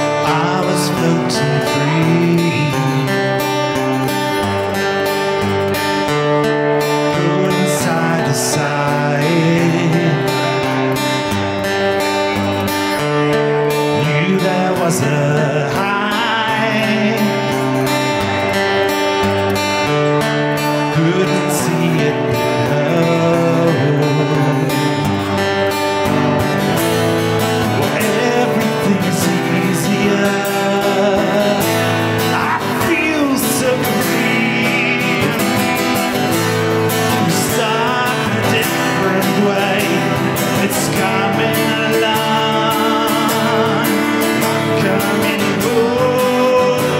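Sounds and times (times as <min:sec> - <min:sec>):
live guitar music: 0:00.0 - 0:46.9.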